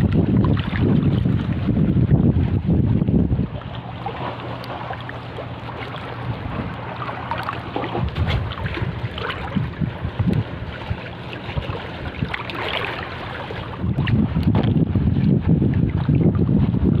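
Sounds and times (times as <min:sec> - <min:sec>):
wind buffeting microphone: 0:00.0 - 0:04.8, 0:05.9 - 0:17.0
steady low hum: 0:00.0 - 0:17.0
water lapping: 0:00.0 - 0:17.0.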